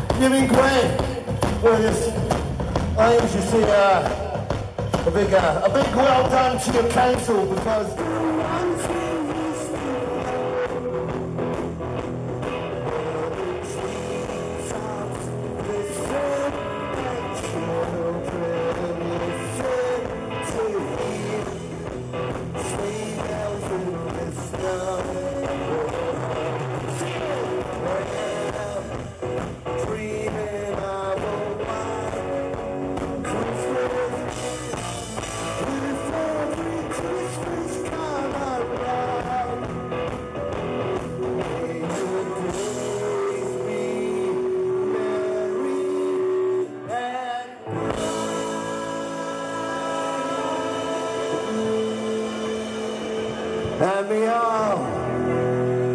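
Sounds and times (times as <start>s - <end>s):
drums: 0.0s - 55.9s
electric guitar: 0.0s - 55.9s
man singing: 0.0s - 55.9s.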